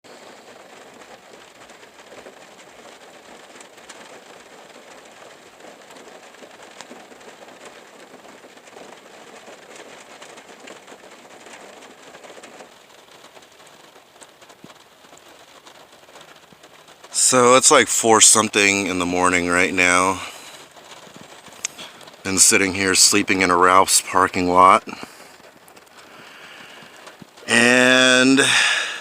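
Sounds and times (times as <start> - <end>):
rain on a vehicle roof: 0.0 - 29.0.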